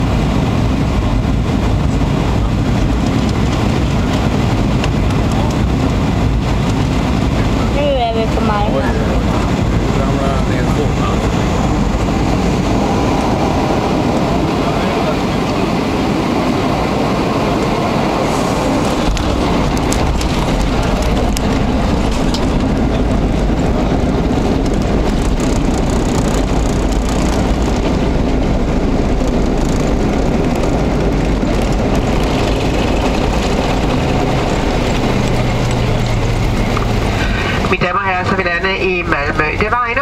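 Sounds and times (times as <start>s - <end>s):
airplane cabin rush: 0.0s - 40.0s
deep rumble: 0.0s - 40.0s.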